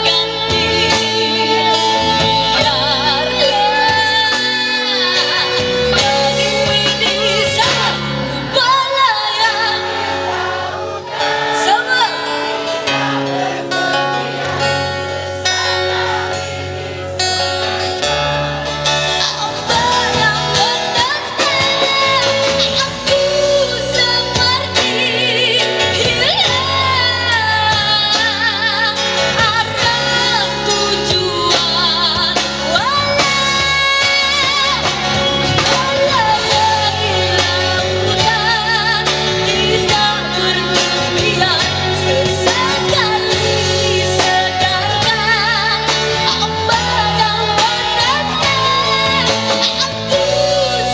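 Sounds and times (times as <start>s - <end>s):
woman singing: 0.0s - 16.6s, 18.8s - 50.9s
rock band playing: 0.0s - 50.9s.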